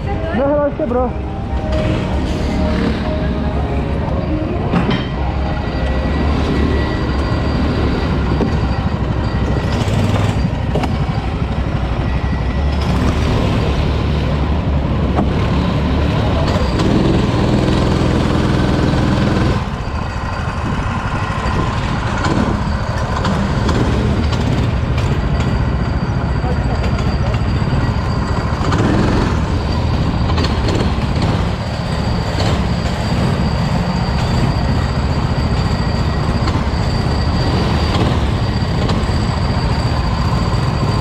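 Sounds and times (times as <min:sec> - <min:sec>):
go-kart engine running: 0:05.7 - 0:41.0.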